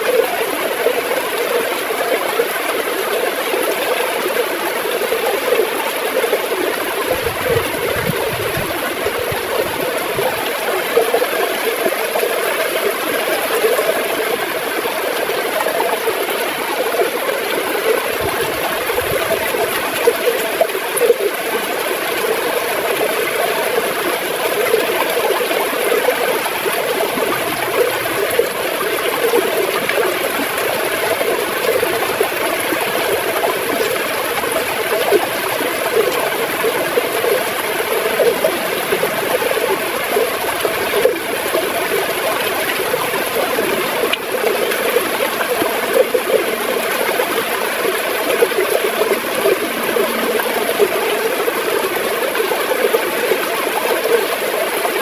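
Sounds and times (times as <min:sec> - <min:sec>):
river water gurgling: 0:00.0 - 0:55.0.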